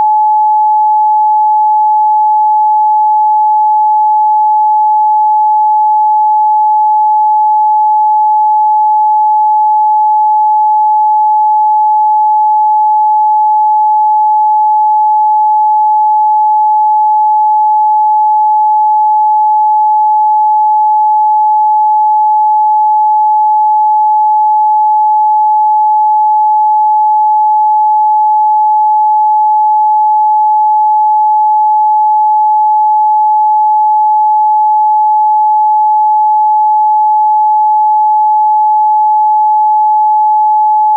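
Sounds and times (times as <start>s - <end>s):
sine test tone: 0.0s - 40.9s.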